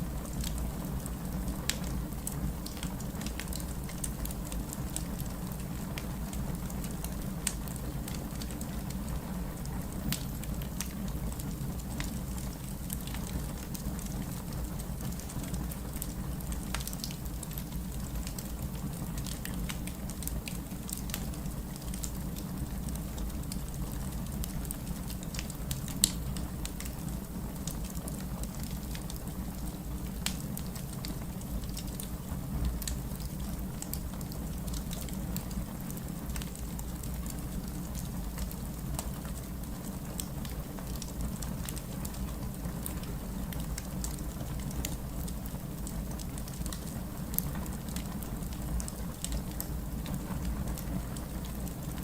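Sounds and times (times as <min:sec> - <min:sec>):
fireplace crackling: 0:00.0 - 0:52.0
low rumble of flame: 0:00.0 - 0:52.0.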